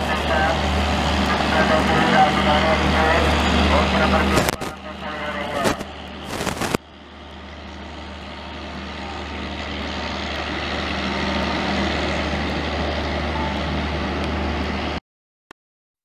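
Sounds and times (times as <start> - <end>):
train mechanical drone: 0.0 - 15.0.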